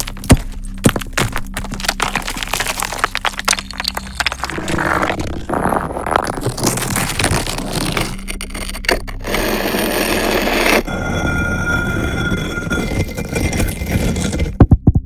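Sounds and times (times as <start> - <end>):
stones and debris rattling: 0.0 - 14.6.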